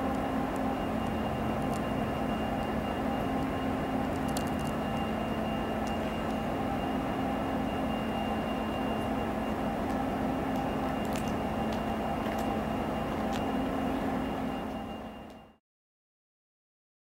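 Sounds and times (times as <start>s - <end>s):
distant train passing: 0.0s - 15.4s.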